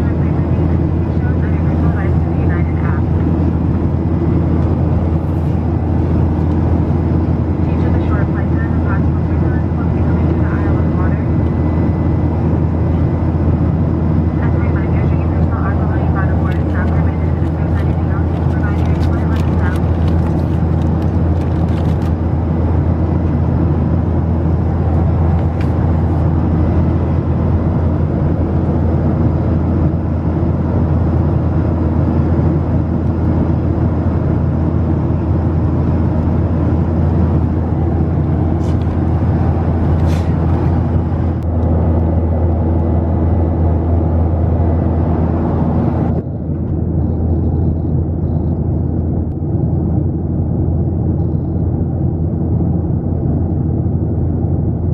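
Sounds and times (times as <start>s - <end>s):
airliner engine drone in cabin: 0.0s - 54.9s.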